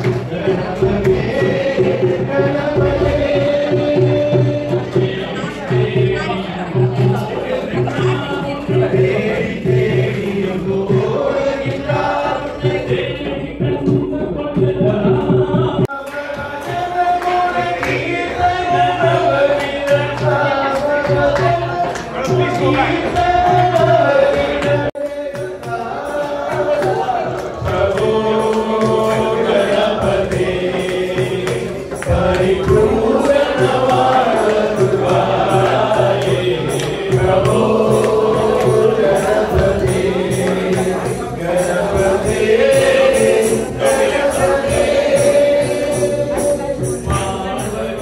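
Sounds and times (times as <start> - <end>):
devotional singing: 0.0 - 48.0
light percussion: 0.0 - 48.0.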